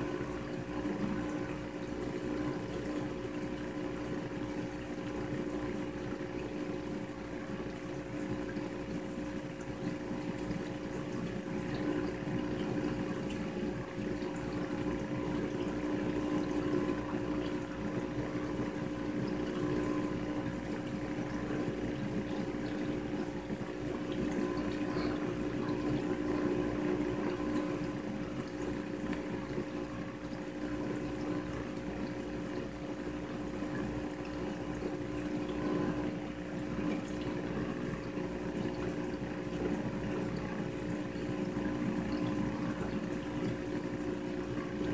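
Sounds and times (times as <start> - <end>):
aquarium pumps humming: 0.0 - 44.9
moving water and bubbles: 0.0 - 44.9.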